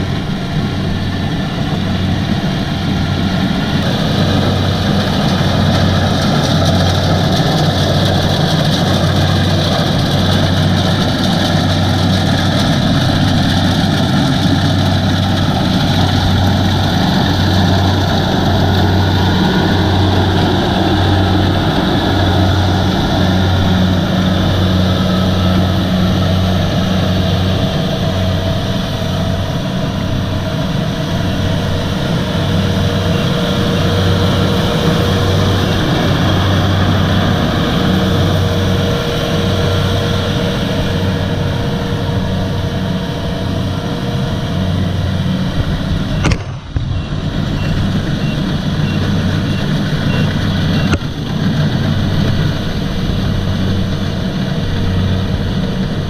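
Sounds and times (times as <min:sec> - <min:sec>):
combine harvester diesel engine droning: 0:00.0 - 0:56.0.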